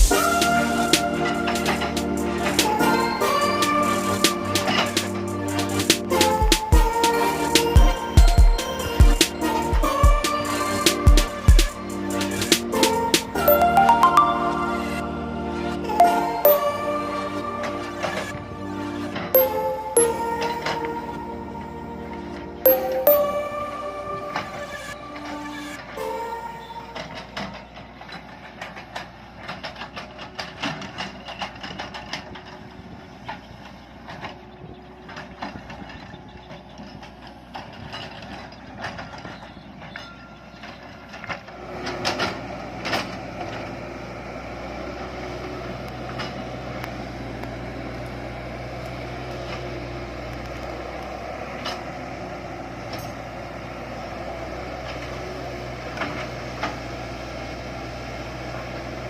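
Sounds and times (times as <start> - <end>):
engine running: 0.0 - 13.5, 15.0 - 40.0, 40.6 - 59.0.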